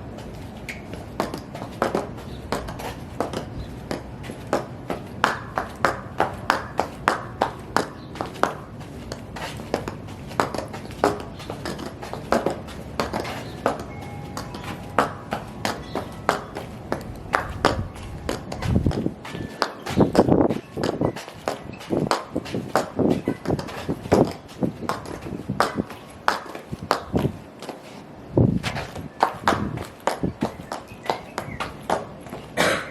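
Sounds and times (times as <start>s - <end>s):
low background noise: 0.0s - 32.9s
high heels stomping: 0.1s - 27.8s, 28.4s - 32.9s.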